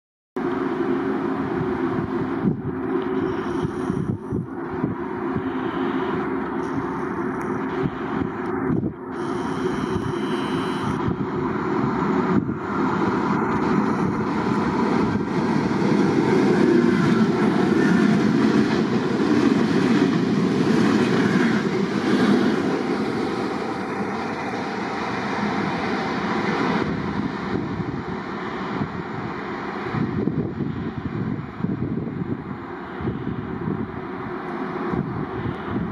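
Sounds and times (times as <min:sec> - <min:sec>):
train wheels rumbling on rails: 0:00.4 - 0:35.9.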